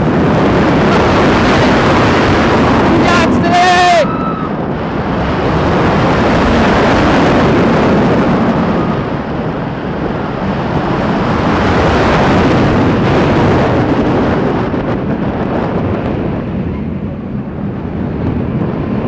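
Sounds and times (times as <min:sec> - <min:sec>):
roller coaster train rumbling: 0:00.0 - 0:19.0
wind rushing over microphone: 0:00.0 - 0:19.0.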